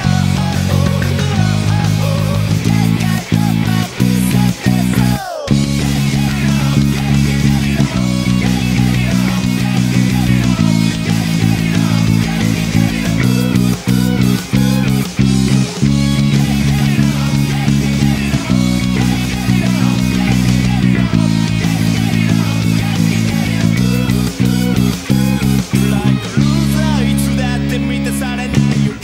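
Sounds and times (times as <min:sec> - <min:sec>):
electric bass played fingerstyle: 0:00.0 - 0:29.0
rock band with distorted guitars: 0:00.0 - 0:29.0.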